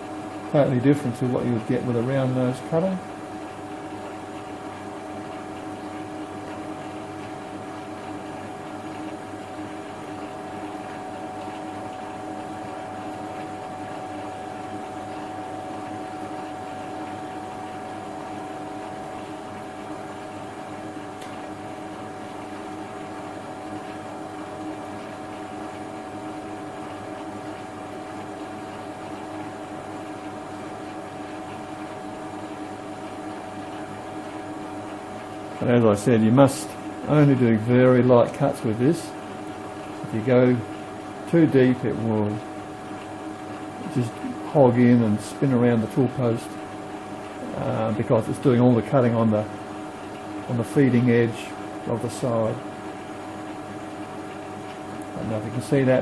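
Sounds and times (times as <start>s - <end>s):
lathe motor and gear whine: 0.0s - 56.0s.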